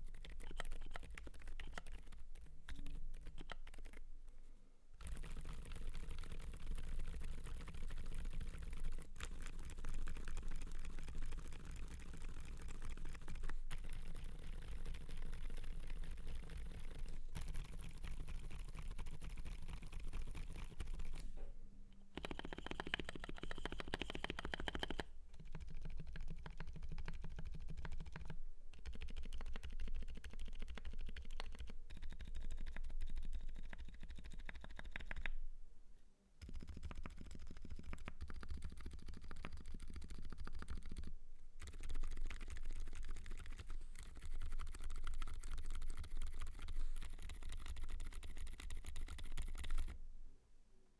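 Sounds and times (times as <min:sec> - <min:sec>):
typing on mechanical keyboard: 0:00.0 - 0:04.0, 0:05.0 - 0:21.3, 0:22.1 - 0:35.4, 0:36.4 - 0:50.0.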